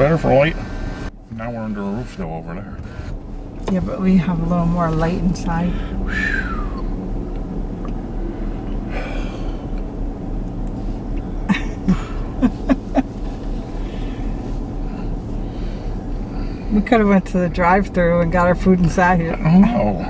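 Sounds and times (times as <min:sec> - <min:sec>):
low hum inside car: 0:00.0 - 0:20.0.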